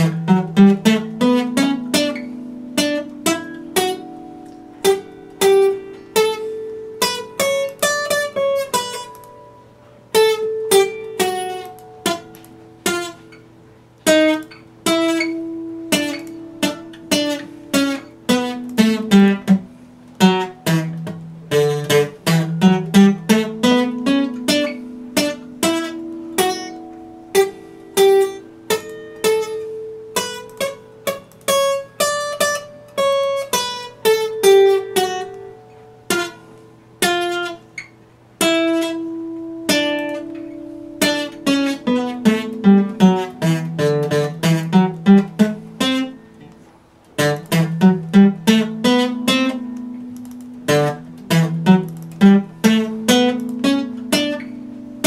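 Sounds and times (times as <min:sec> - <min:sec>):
fingerpicked acoustic guitar: 0:00.0 - 0:55.0.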